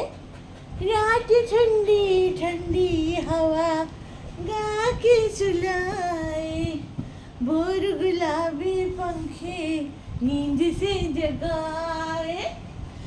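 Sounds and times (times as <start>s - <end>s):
woman singing unaccompanied: 0.8s - 12.7s.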